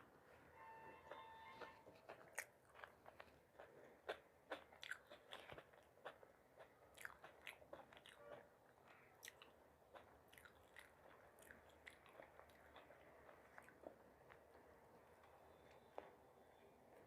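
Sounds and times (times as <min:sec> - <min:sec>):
chewing and crunching food: 0:01.0 - 0:17.0.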